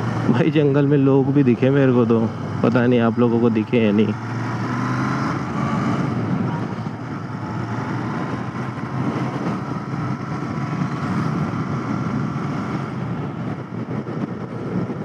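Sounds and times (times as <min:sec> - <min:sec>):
motorcycle engine running: 0:00.0 - 0:15.0
wind and road rush: 0:00.0 - 0:15.0.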